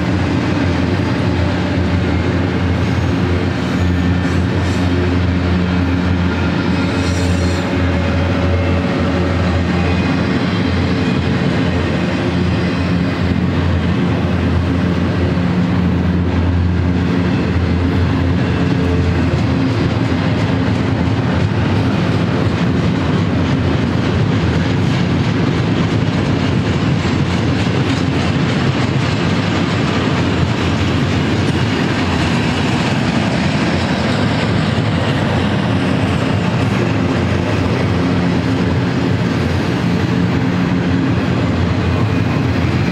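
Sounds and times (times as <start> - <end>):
clickety-clack over rail joints: 0.0 - 42.9
train wheels rumbling on rails: 0.0 - 42.9.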